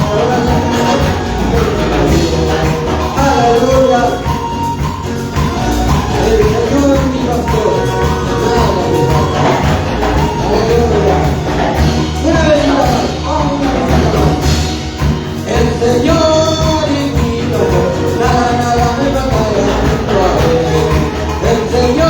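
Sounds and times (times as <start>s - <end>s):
worship band music with singing: 0.0s - 22.0s.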